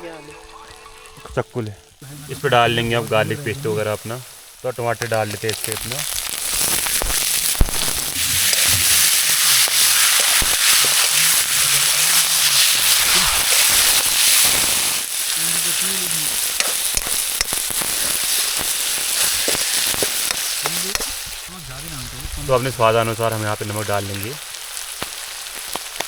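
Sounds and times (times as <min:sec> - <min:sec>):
vegetables sizzling in hot oil: 0:00.1 - 0:26.0.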